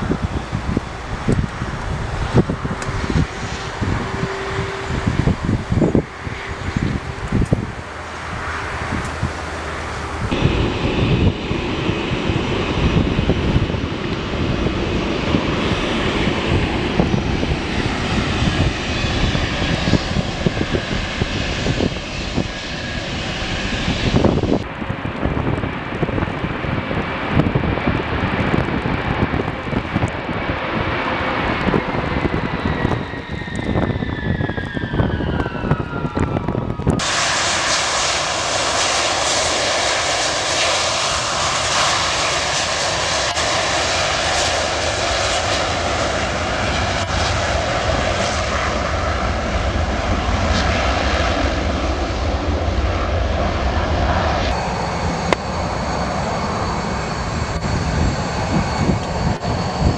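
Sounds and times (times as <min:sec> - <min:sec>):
jet engine whine falling in pitch: 0:00.0 - 0:59.9
jet engines roaring: 0:00.0 - 0:59.9
jet engines roaring with hiss: 0:00.0 - 0:59.9.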